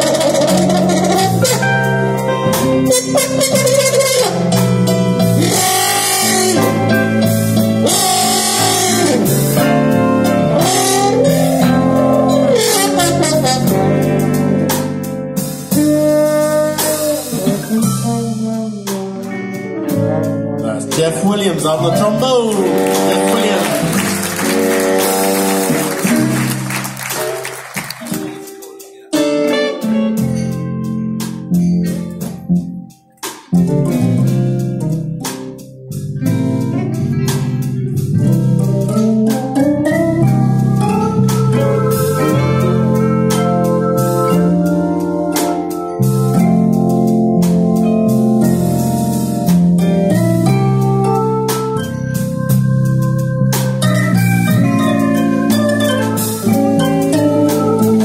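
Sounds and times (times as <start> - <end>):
blues band playing: 0.0 - 58.0
sliding lead guitar line: 0.0 - 58.0.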